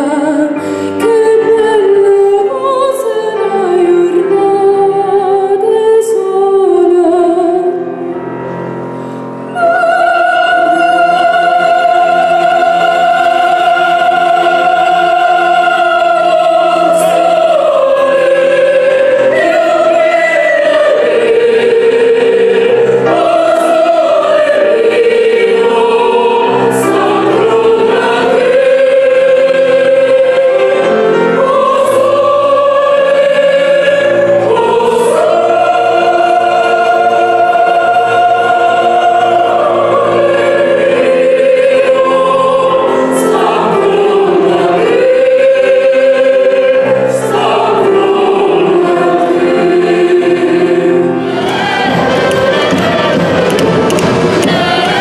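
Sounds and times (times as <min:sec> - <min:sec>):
choir of young voices singing: 0:00.0 - 0:55.0.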